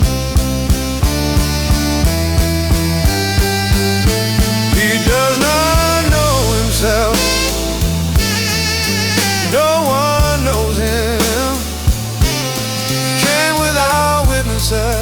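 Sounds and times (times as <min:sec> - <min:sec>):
slow blues music: 0:00.0 - 0:15.0.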